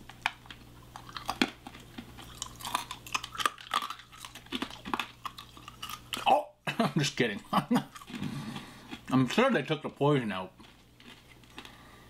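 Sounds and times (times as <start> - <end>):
man chewing hard candy crunching: 0.0 - 12.0.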